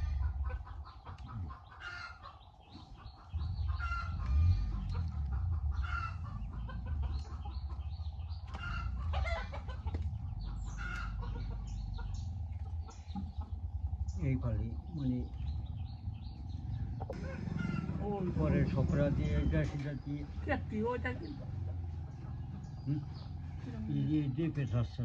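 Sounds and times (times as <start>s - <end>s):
chickens clucking: 0.0s - 25.0s
low rumble: 0.0s - 25.0s.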